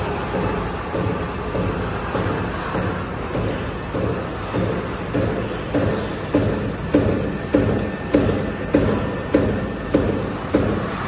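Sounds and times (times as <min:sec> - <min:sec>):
machine drive hum: 0:00.0 - 0:11.0.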